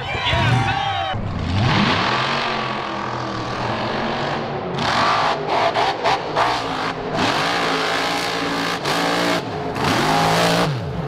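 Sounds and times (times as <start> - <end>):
truck engine revving: 1.2 - 11.0.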